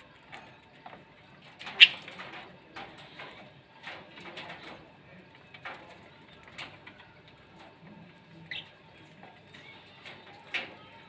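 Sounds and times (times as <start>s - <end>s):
small birds chirping: 1.4s - 11.0s.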